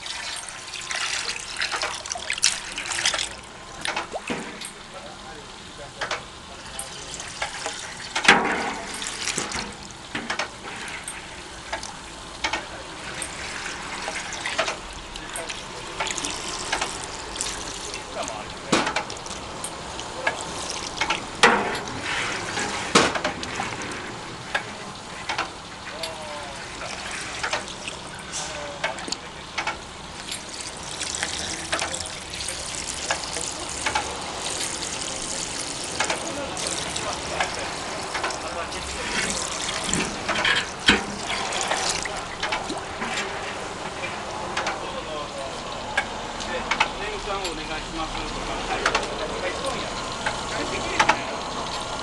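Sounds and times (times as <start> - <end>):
water gushing from a pump: 0.0 - 52.0.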